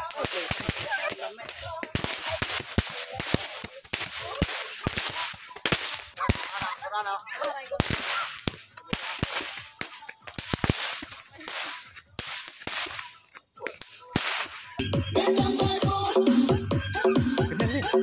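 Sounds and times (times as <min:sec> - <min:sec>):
fireworks popping and banging: 0:00.0 - 0:14.8.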